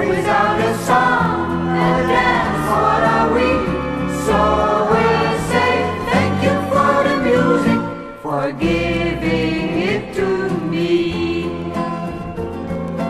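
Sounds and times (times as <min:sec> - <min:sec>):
voices singing together: 0:00.0 - 0:12.2
instrumental accompaniment: 0:00.0 - 0:13.0.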